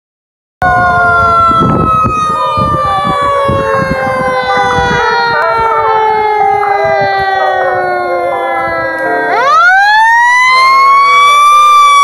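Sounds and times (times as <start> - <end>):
fire truck siren: 0.6 - 12.0
truck engines rumbling: 0.6 - 12.0.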